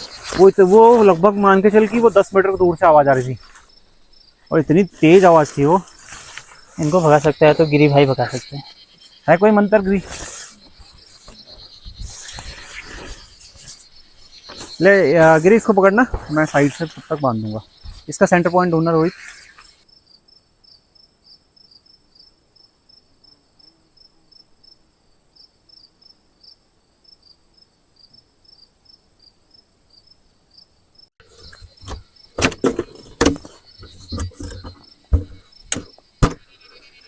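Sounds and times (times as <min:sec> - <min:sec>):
night insects buzzing and chirping: 0:00.0 - 0:37.0.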